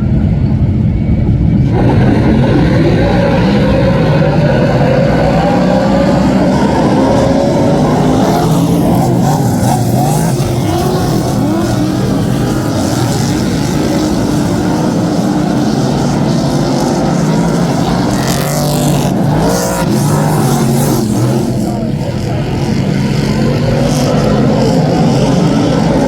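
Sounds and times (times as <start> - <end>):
race car engines revving: 0.0 - 26.0
race car passing by: 0.0 - 26.0.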